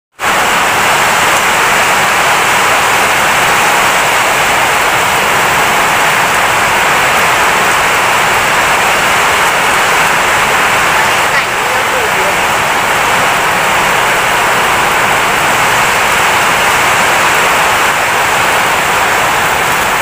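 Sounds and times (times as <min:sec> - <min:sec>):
torrential rain in strong wind: 0:00.1 - 0:20.0.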